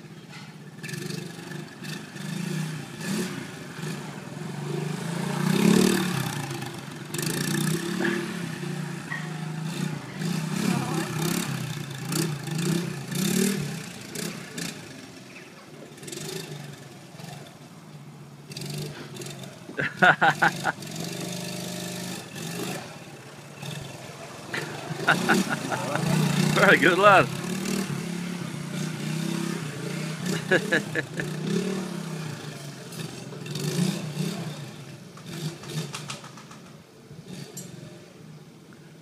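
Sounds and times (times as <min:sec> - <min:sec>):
small engine revving: 0:00.8 - 0:17.6, 0:18.5 - 0:38.0.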